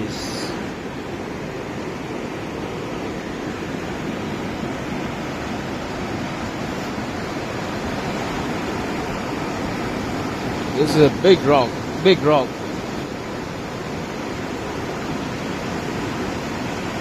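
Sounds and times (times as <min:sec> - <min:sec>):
large river rushing: 0:00.0 - 0:17.0.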